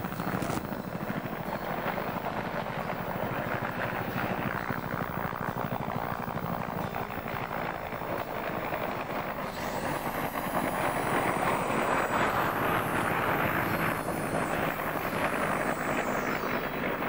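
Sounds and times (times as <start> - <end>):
helicopter passing close: 0.0 - 17.0
high turbine whine: 0.0 - 17.0
wind noise on microphone: 0.0 - 17.0.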